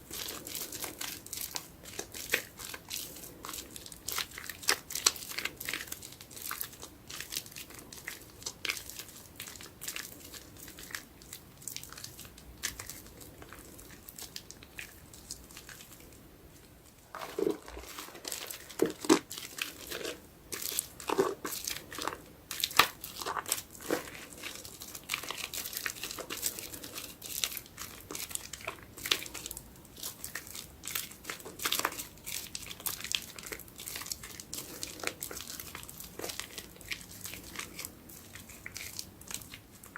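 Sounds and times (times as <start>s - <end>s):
soapy sponge squishing: 0.0s - 39.9s.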